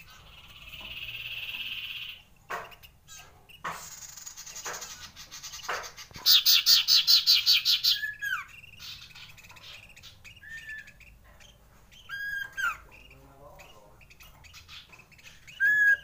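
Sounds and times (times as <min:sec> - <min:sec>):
bird trilling and whistling: 0:00.0 - 0:16.0.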